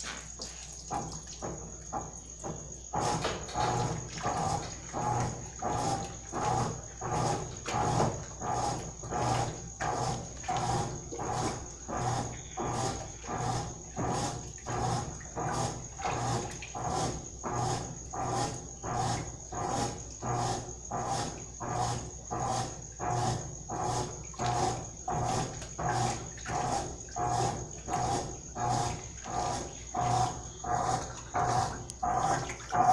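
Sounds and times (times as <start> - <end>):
washing machine motor humming in pulses: 0.0 - 32.9.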